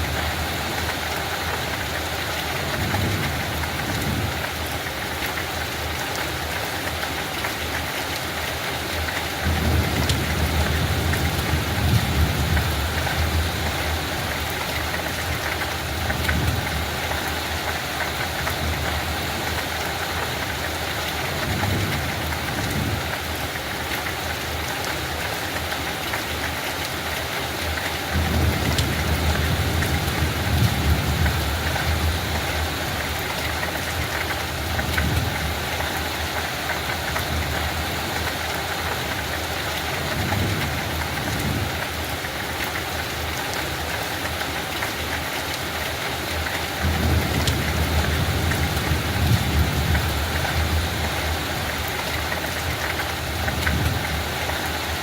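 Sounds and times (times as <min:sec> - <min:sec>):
light rain on a field: 0:00.0 - 0:55.0.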